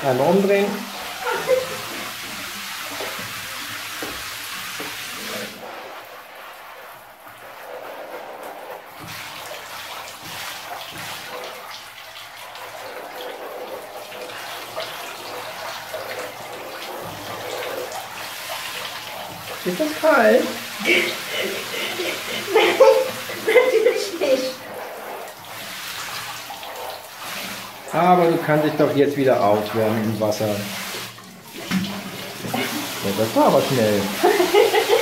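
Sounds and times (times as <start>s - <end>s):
shower water splashing into bathtub: 0.0s - 35.0s.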